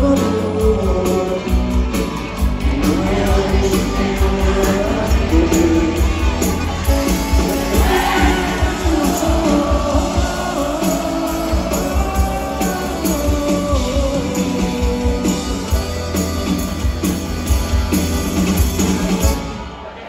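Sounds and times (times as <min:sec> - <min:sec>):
live band through sound system: 0:00.0 - 0:20.0.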